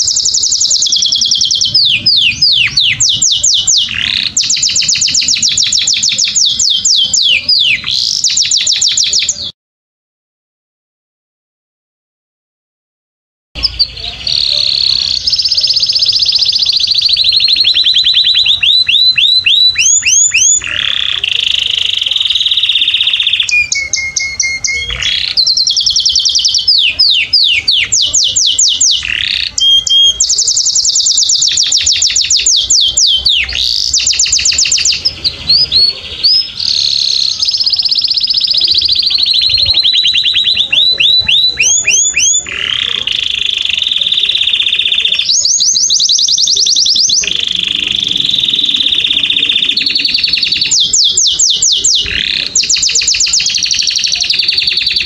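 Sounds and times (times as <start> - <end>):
canary singing: 0.0 - 9.6, 13.6 - 55.0.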